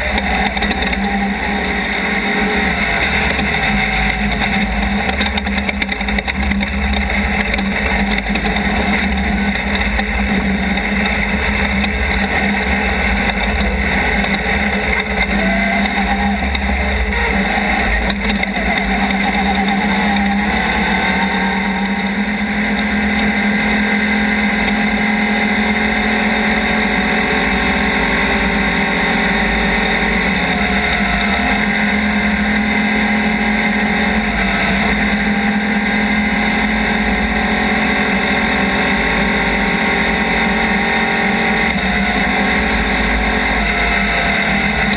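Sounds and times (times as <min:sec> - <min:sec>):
race car engine running hard: 0:00.0 - 0:44.9.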